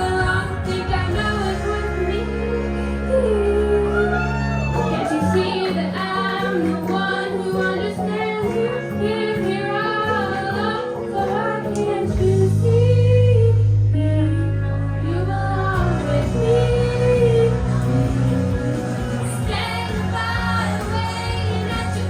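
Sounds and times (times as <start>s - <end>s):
backing track with bass line: 0.0s - 22.0s
woman singing: 0.0s - 22.0s.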